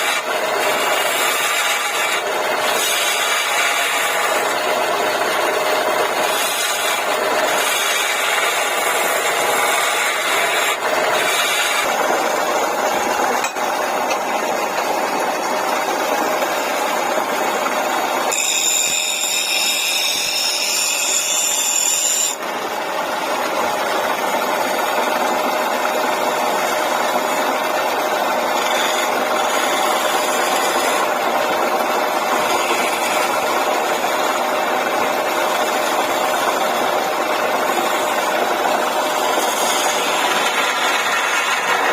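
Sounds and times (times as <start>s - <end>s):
tool scraping spinning wood: 0.0s - 41.9s
wood lathe motor hum: 0.0s - 41.9s.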